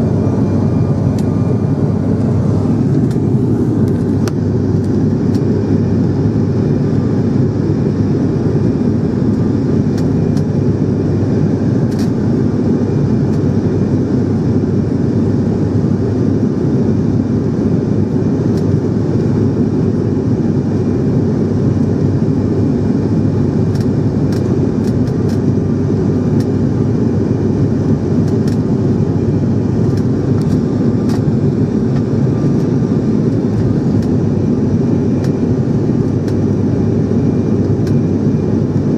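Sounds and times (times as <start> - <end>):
aircraft engine drone in cabin: 0.0 - 38.9.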